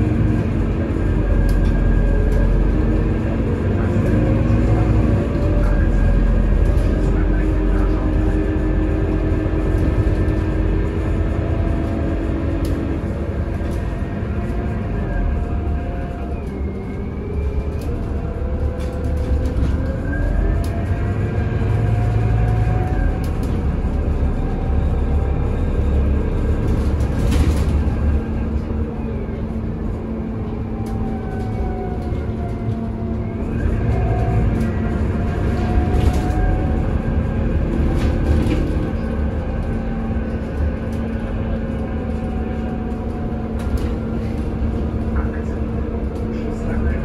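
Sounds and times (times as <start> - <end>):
bus engine drone: 0.0 - 47.0.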